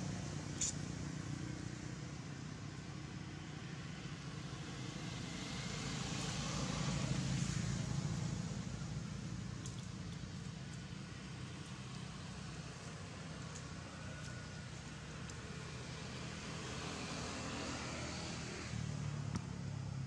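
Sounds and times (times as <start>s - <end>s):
motor vehicle rumble: 0.0s - 20.0s.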